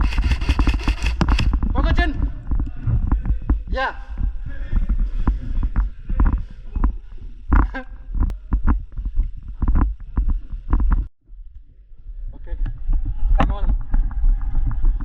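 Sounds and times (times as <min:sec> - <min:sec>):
deep rumble on microphone: 0:00.0 - 0:15.0.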